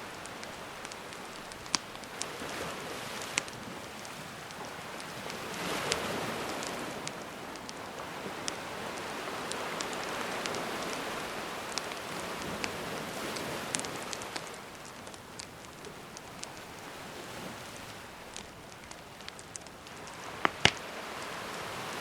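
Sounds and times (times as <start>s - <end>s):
campfire crackling: 0.0s - 22.0s
sea waves washing: 0.0s - 22.0s.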